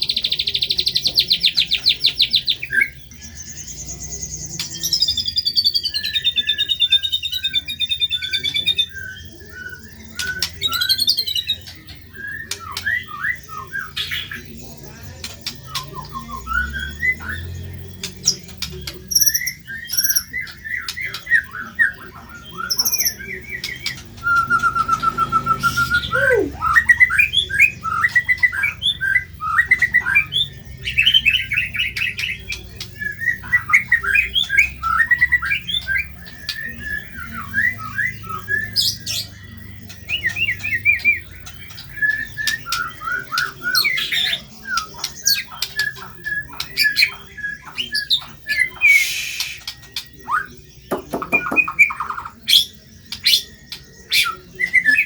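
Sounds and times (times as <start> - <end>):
bird singing chattering song: 0.0 - 55.0.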